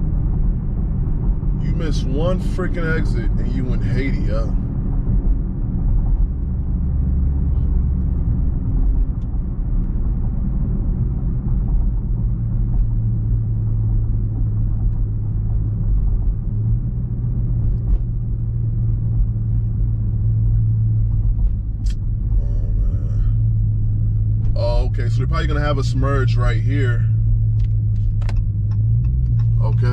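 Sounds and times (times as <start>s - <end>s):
engine and road rumble: 0.0s - 29.9s
low hum: 0.0s - 29.9s.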